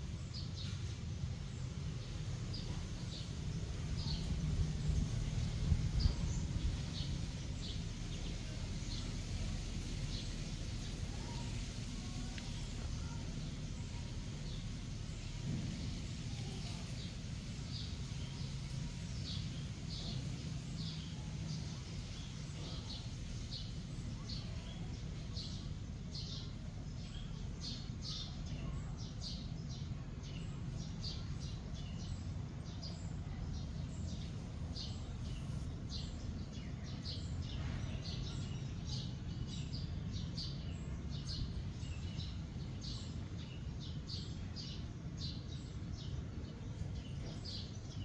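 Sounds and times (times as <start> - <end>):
low background rumble: 0.0 - 48.0
birds chirping: 0.1 - 48.0.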